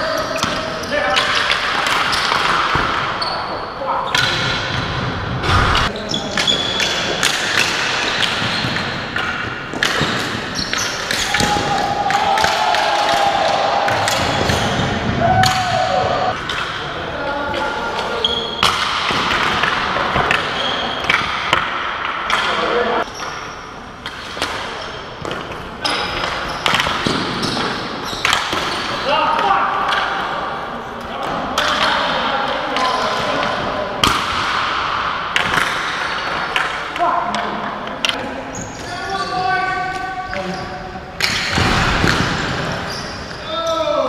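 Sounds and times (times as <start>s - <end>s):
hockey sticks and ball clacking: 0.0s - 44.0s.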